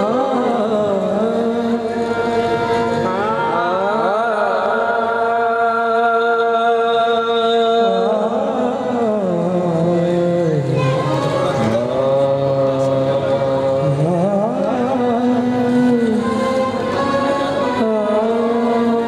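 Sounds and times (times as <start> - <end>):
harmonium chords: 0.0 - 19.0
person singing: 0.0 - 19.0.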